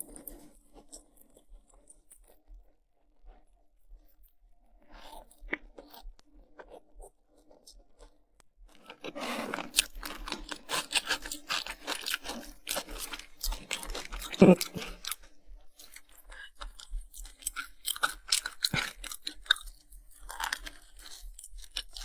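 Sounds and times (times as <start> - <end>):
food crunching while chewed: 0.0 - 2.4, 5.0 - 22.0.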